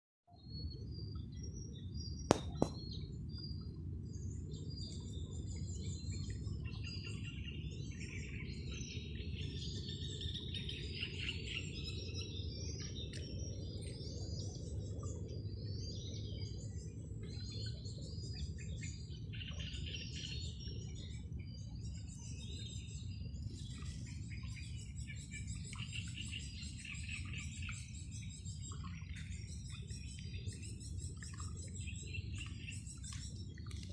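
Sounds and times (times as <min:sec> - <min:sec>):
birds chirping and singing: 0:04.4 - 0:33.9.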